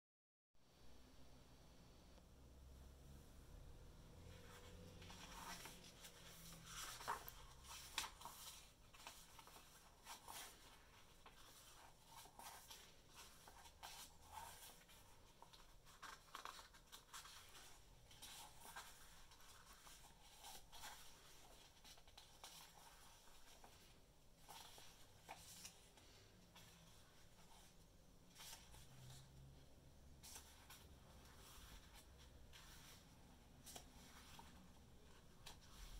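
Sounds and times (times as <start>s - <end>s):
book pages rustling: 4.2s - 35.9s.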